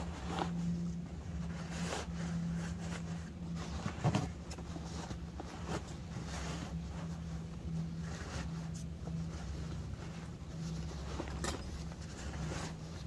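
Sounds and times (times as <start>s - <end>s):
rustling and handling noises: 0.0s - 13.0s
steady low hum: 0.0s - 13.0s.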